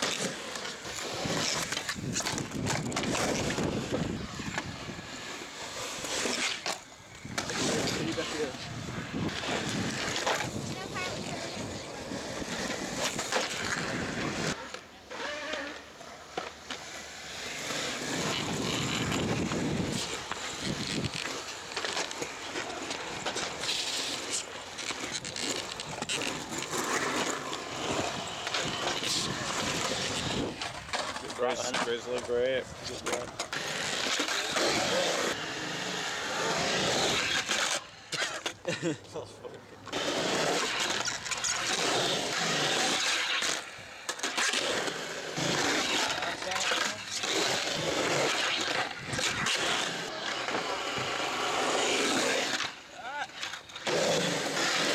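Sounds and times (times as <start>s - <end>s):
skateboard wheels rolling on concrete: 0.0s - 54.9s.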